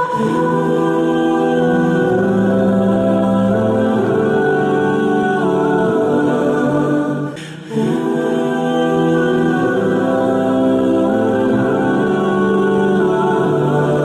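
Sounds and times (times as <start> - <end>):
choir-like vocal chords: 0.0 - 14.0.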